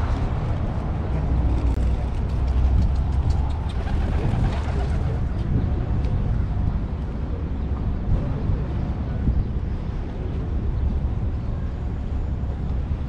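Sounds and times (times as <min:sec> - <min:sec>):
traffic rumble: 0:00.0 - 0:13.0
wind: 0:00.0 - 0:13.0.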